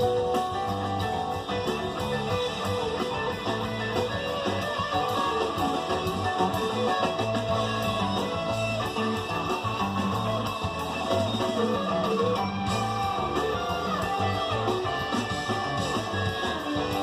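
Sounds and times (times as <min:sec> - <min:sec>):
guitar music with bass line: 0:00.0 - 0:17.0.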